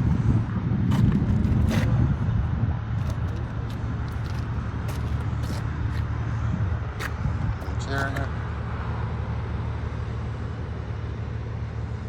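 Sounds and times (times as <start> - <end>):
motor vehicles rumbling: 0.0 - 12.0.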